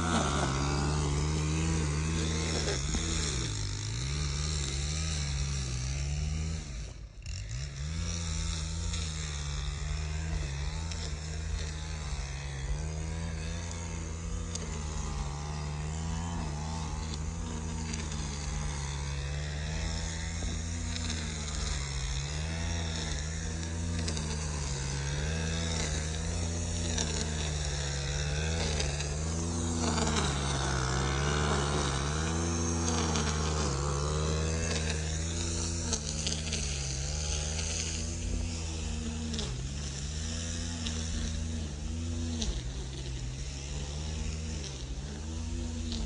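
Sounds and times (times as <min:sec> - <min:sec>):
string trimmer engine running: 0:00.0 - 0:46.0.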